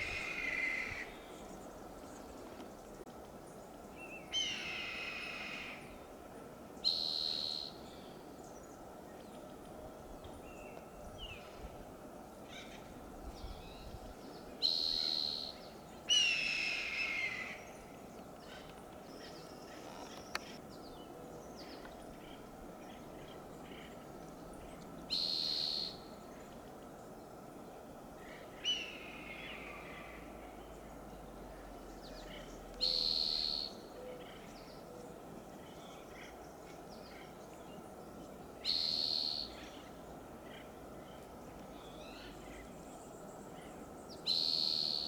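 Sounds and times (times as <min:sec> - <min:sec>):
background hiss: 0:00.0 - 0:45.0.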